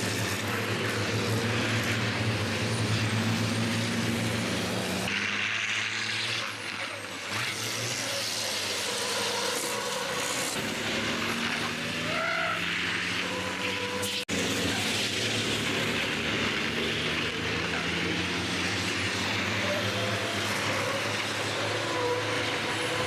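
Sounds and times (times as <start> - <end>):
racing truck engines passing: 0.0 - 23.0.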